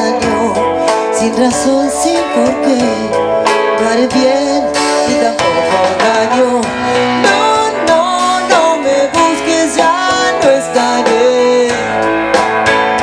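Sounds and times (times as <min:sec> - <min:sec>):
drums: 0:00.0 - 0:13.0
electric guitar: 0:00.0 - 0:13.0
keyboard: 0:00.0 - 0:13.0.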